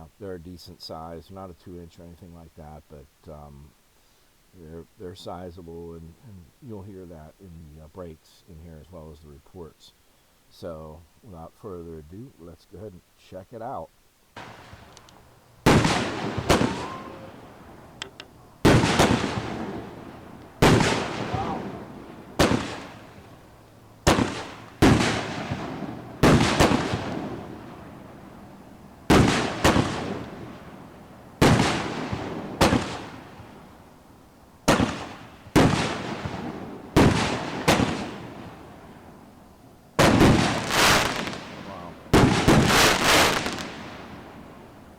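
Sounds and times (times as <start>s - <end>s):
fireworks breaks and reports: 0.0s - 3.8s, 4.5s - 23.4s, 24.0s - 28.4s, 29.1s - 30.7s, 31.4s - 33.2s, 34.7s - 38.3s, 40.0s - 44.1s.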